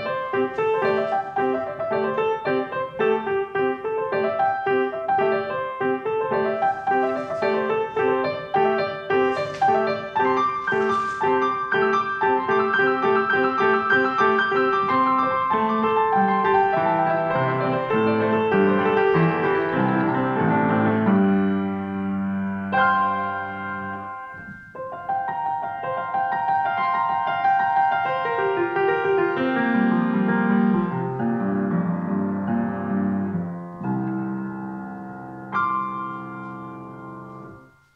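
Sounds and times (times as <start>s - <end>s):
grand piano playing: 0.0s - 37.9s.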